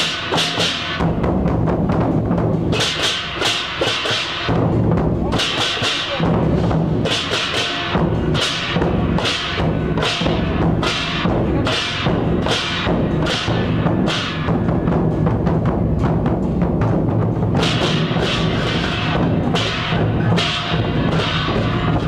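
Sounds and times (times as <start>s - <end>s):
cymbals clashing: 0.0s - 22.0s
drums: 0.0s - 22.0s
gongs: 0.0s - 22.0s.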